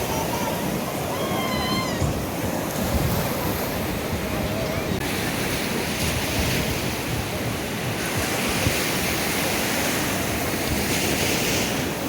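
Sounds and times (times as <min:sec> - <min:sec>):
sea surf washing onto beach: 0:00.0 - 0:12.0
wind rumbling on microphone: 0:00.0 - 0:12.0.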